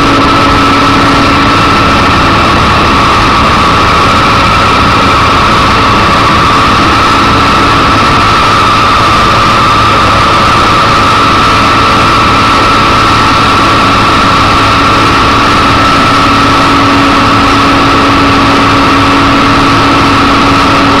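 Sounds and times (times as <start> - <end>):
centrifuge mechanical rush with whine: 0.0 - 21.0.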